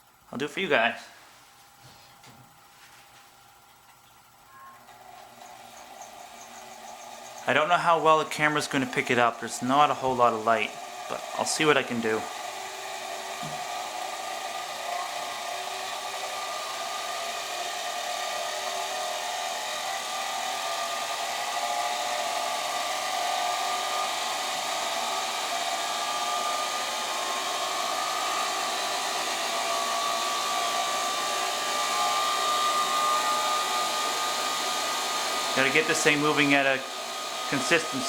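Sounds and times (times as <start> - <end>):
ceiling fan whirring: 0.0 - 38.0
faint motor whine: 0.0 - 38.0.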